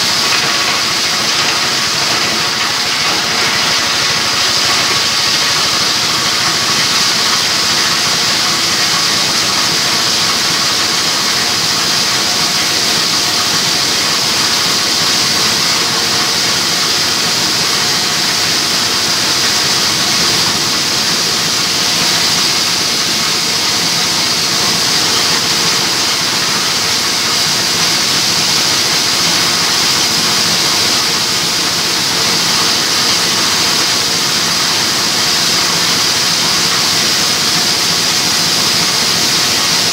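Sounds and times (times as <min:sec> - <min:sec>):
hammer mill running: 0:00.0 - 0:39.9.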